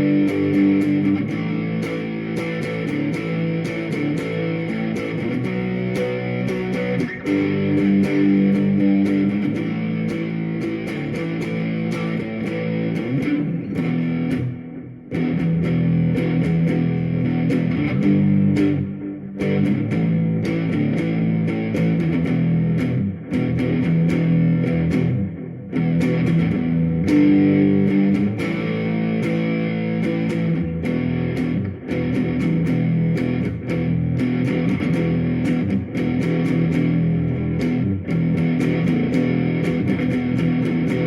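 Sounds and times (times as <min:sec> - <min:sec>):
electric guitar through amp: 0:00.0 - 0:41.0.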